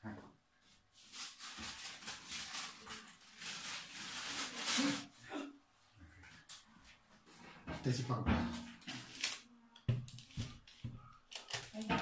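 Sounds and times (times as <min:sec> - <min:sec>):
rustling and crinkling: 0:00.6 - 0:05.2, 0:06.0 - 0:12.0.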